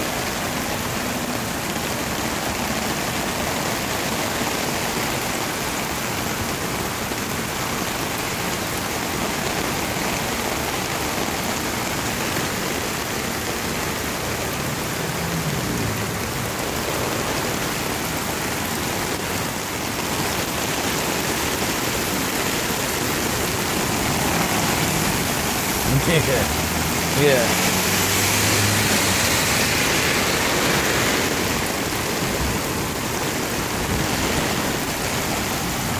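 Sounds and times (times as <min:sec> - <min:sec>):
floodwater flowing across street: 0:00.0 - 0:35.9
rain falling: 0:00.0 - 0:35.9.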